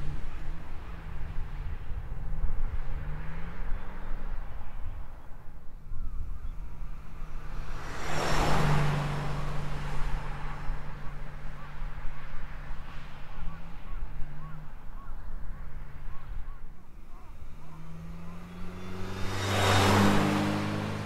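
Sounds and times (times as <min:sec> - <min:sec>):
minivan engine driving past: 0:00.0 - 0:21.0
tyre and road noise: 0:00.0 - 0:21.0.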